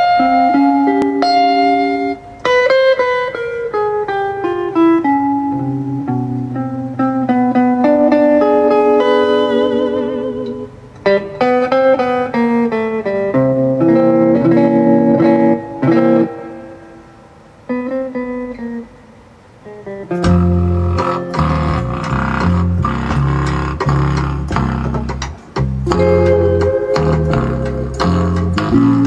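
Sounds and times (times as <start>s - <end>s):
plucked guitar: 0.0s - 29.0s.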